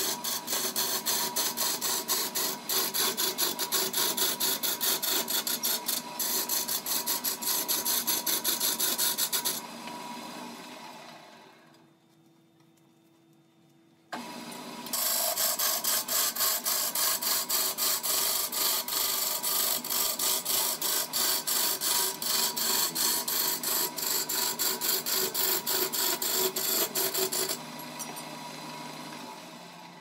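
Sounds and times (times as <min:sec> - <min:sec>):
turning tool cutting spinning log: 0:00.0 - 0:11.2, 0:14.2 - 0:30.0
wood lathe running: 0:00.0 - 0:11.5, 0:14.2 - 0:30.0.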